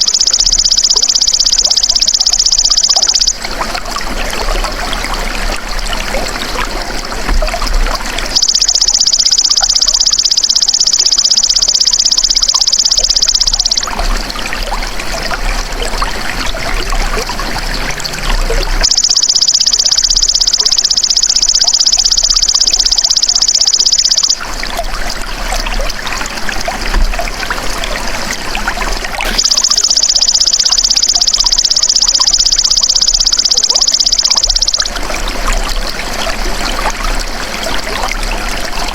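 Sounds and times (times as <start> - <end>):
trickle of flowing water: 0.0 - 38.9.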